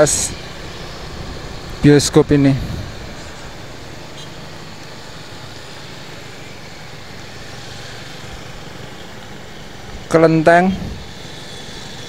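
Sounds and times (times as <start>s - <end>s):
car engine hum and road noise: 0.0s - 12.0s.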